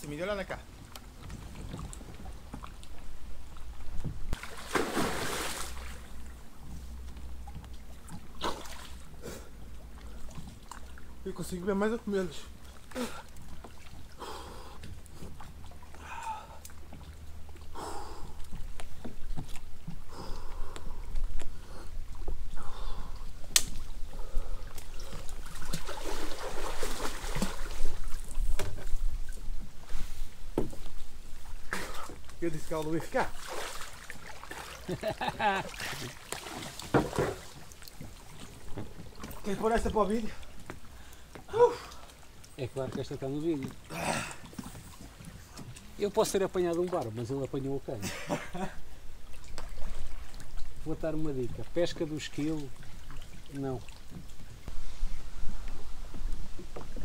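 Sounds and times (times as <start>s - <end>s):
water sloshing and splashing: 0.0s - 57.0s.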